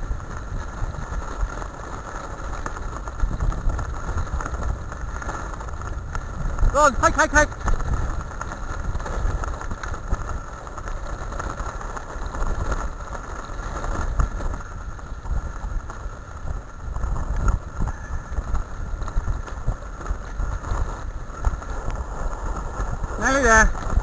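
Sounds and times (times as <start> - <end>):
wheels rolling over gravel: 0.0 - 24.0
wind buffeting microphone: 0.0 - 24.0.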